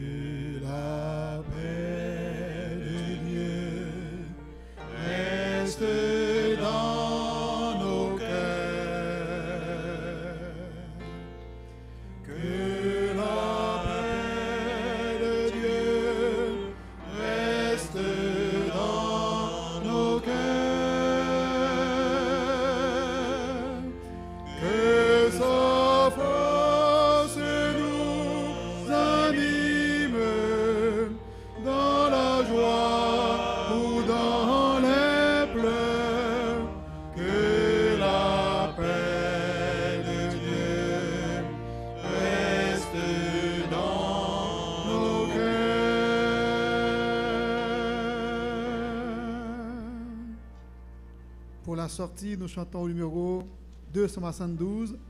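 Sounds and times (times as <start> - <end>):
choir singing long notes: 0.0 - 51.8.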